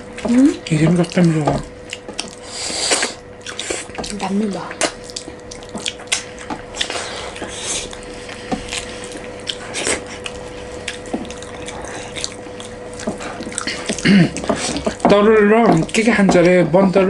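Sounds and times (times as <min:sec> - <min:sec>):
wet chewing and lip smacks: 0:00.6 - 0:04.2, 0:04.8 - 0:14.9.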